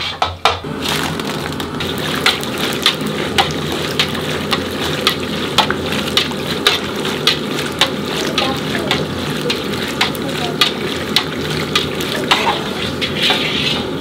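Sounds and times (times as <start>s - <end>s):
deep-frying sizzle in oil: 0.0s - 14.0s
ladle knocking against pan: 2.2s - 13.5s.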